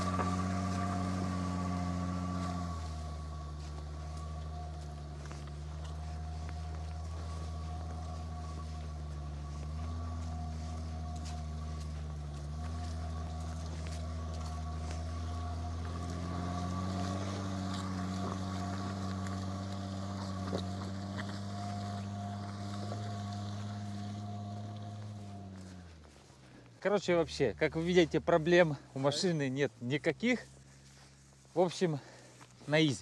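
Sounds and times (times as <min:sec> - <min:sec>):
car engine revving under load: 0:00.0 - 0:31.4.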